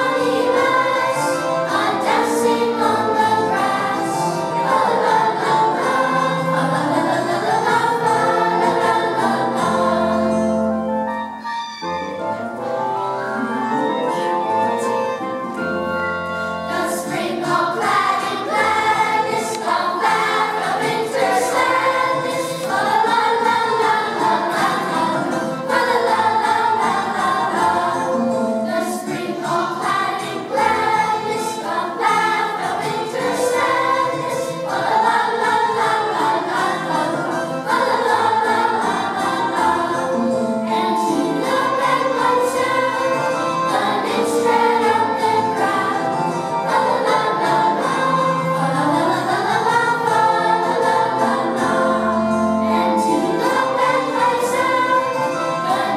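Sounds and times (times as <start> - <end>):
children's choir singing: 0.0 - 55.9.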